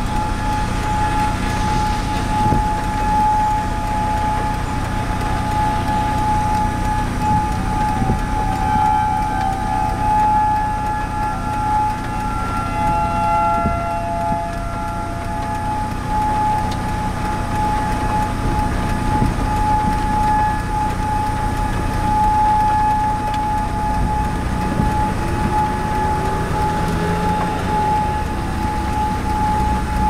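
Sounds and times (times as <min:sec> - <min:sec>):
low noisy rumble: 0:00.0 - 0:30.0
warning siren steady tone: 0:00.0 - 0:30.0.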